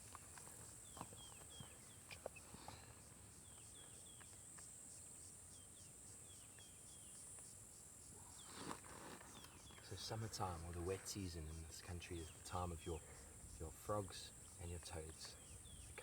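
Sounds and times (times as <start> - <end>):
insect drone: 0.0 - 16.0.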